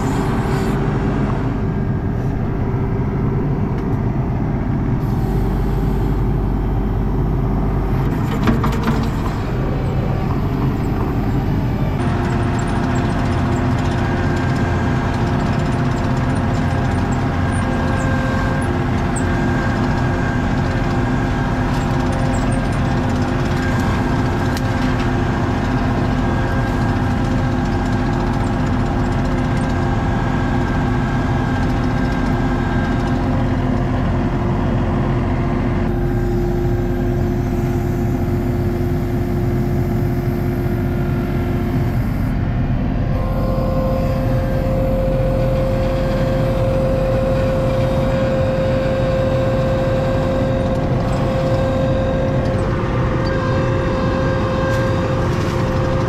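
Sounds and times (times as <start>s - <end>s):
engine drone: 0.0s - 56.0s
hydraulic whine: 0.0s - 56.0s.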